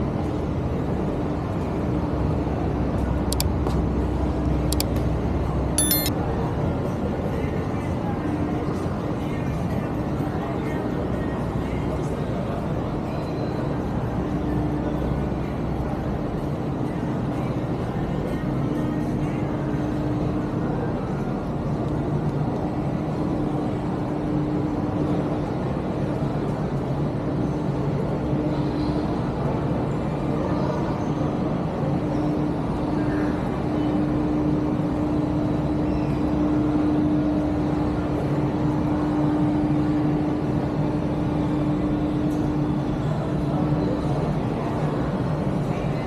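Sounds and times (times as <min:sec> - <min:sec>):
ventilation hum: 0:00.0 - 0:46.0.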